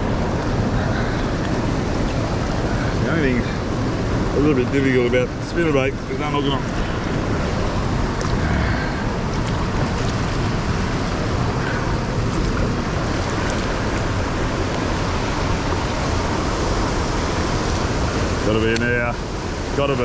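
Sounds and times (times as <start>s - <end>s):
river flowing over rocks: 0.0s - 20.0s.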